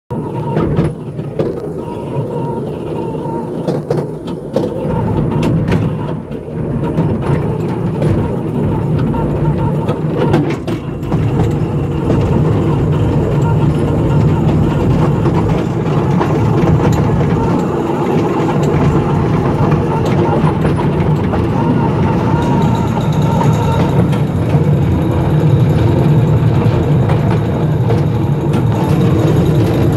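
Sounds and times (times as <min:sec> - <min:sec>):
miniature ride train running: 0:00.1 - 0:29.9
wheels clicking and rattling: 0:00.1 - 0:29.9.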